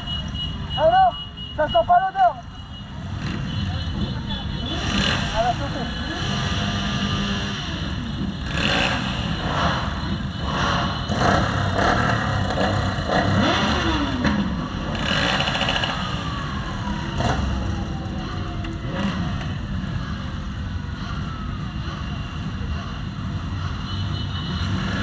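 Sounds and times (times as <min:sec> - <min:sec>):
vehicles driving past: 0:00.0 - 0:25.0
engines revving: 0:01.6 - 0:25.0.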